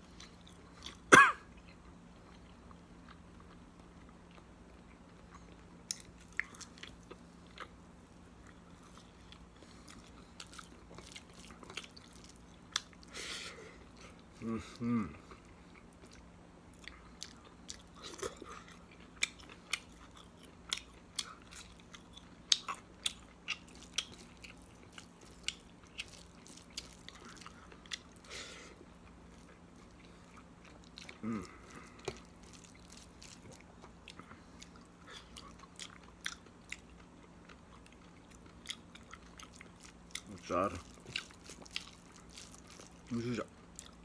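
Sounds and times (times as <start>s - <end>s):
faint steady hum: 0.0s - 44.0s
person chewing: 0.1s - 7.8s, 8.4s - 44.0s.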